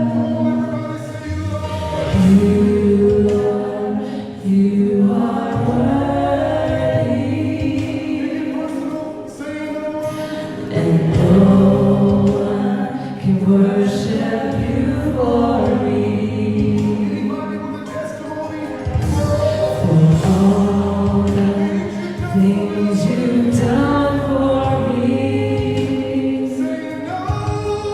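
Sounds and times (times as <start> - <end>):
backing music: 0.0 - 27.9
group singing worship song: 0.0 - 27.9.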